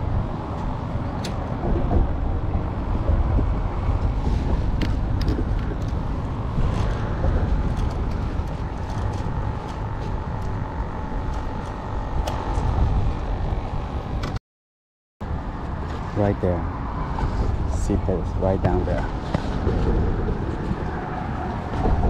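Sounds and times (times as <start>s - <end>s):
road traffic rumble: 0.0s - 14.4s, 15.2s - 22.0s.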